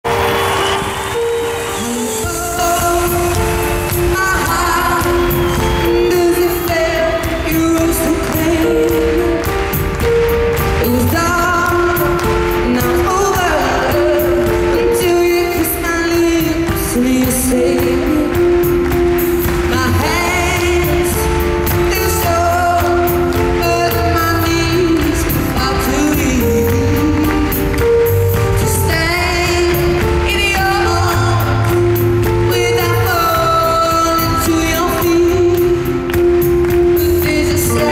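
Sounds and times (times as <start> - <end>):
live band with bass and drums: 0.1 - 37.9
woman singing pop ballad: 1.5 - 37.9.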